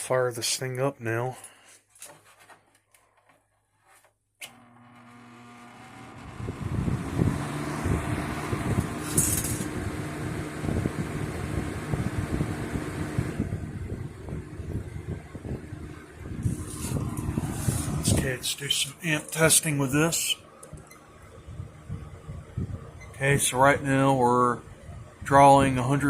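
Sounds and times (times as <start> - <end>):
box fan running: 4.4 - 26.0.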